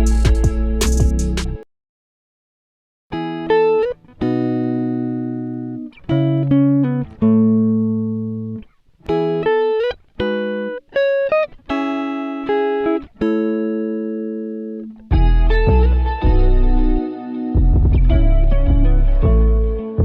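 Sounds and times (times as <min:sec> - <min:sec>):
plucked guitar melody: 0:00.0 - 0:01.6, 0:03.1 - 0:20.0.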